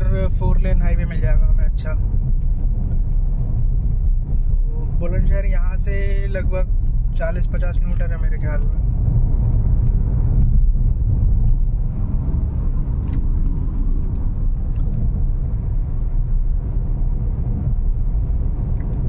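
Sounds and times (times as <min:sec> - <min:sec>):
road rumble inside car: 0:00.0 - 0:19.0.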